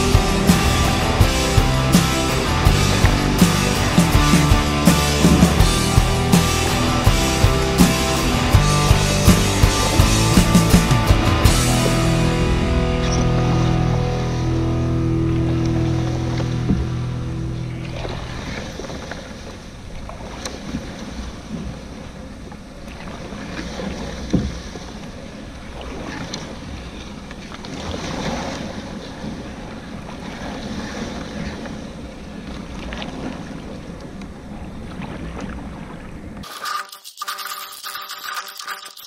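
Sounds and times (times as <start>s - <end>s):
water splashing against hull: 0.0s - 39.0s.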